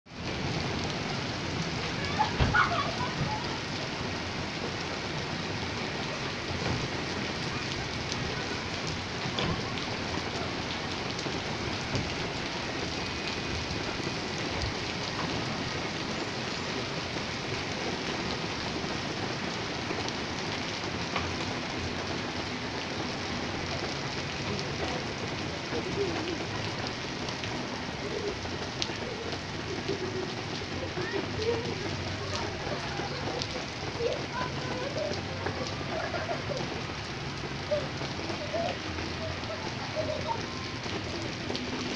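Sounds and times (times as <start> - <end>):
steady rain falling: 0.1 - 41.9.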